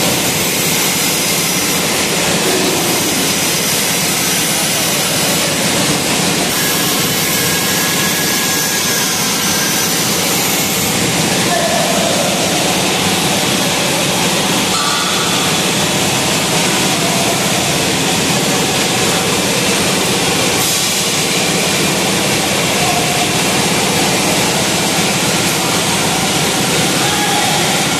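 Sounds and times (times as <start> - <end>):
factory machinery rushing: 0.0 - 27.9.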